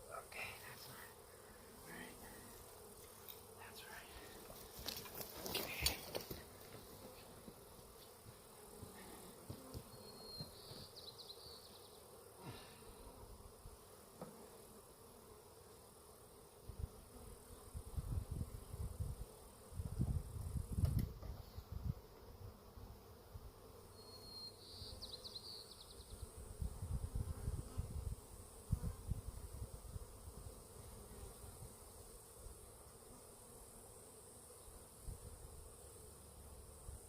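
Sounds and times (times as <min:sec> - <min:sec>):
honeybees buzzing: 0:00.0 - 0:37.0.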